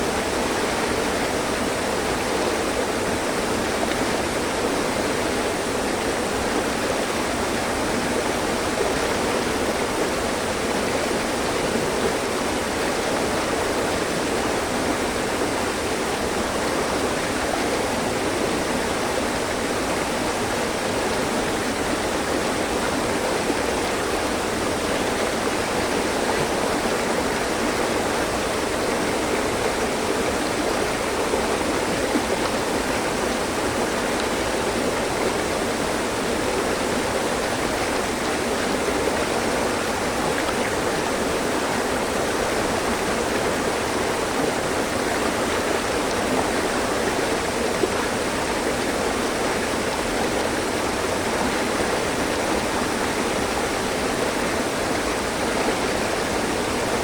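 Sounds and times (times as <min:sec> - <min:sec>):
water running over rocks: 0:00.0 - 0:57.0.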